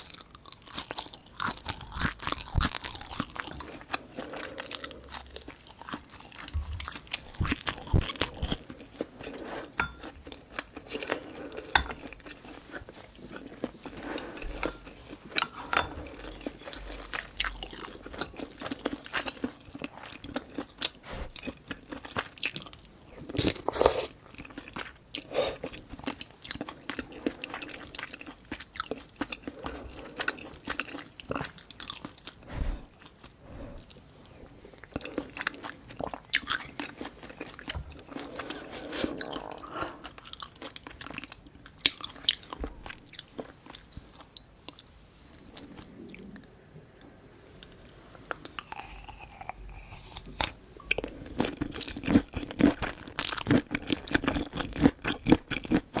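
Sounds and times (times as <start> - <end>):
person chewing and crunching food: 0.0 - 46.6, 47.5 - 56.0.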